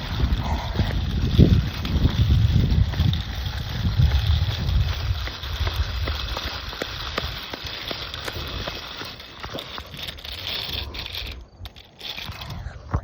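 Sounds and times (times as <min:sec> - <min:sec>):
footsteps with clicks and crackles: 0:00.0 - 0:13.0
steady rustling: 0:00.0 - 0:13.0.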